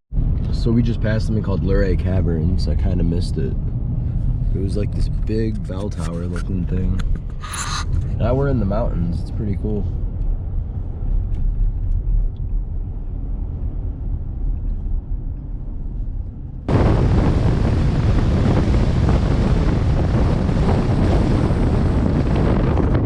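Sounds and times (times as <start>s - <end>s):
road rumble from moving vehicle: 0.1s - 23.0s
wind noise on microphone: 2.5s - 23.0s.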